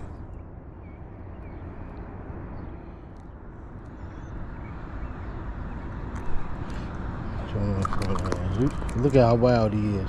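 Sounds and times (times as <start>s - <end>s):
low outdoor rumble and hiss: 0.0s - 10.0s.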